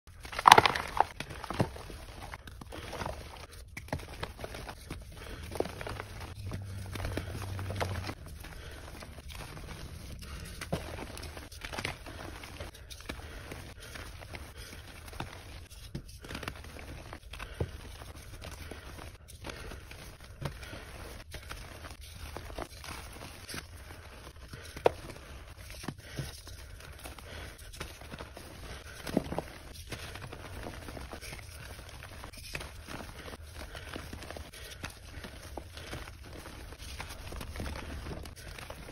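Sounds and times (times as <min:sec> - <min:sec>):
chalk crumbling in a hand: 0:00.1 - 0:38.9.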